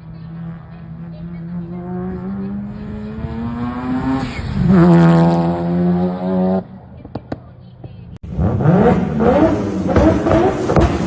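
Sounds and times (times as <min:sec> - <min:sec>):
rotary engine revving: 0:00.0 - 0:07.4, 0:08.2 - 0:11.0.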